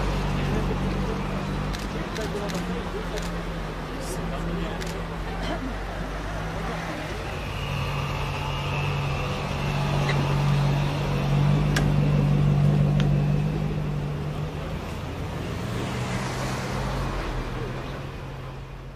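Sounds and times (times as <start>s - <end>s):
vehicle engine hum: 0.0s - 18.9s.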